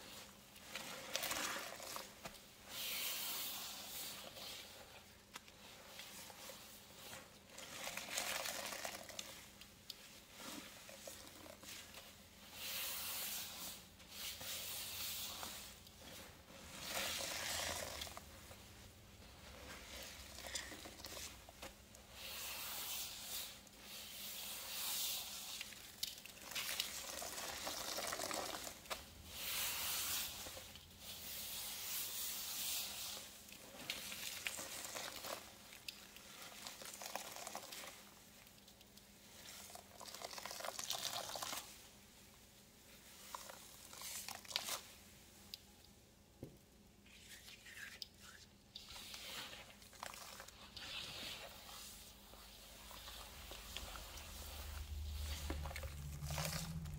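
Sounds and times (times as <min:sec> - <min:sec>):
hands squishing wet paste: 0:00.0 - 0:41.8, 0:43.0 - 0:45.7, 0:47.0 - 0:56.9.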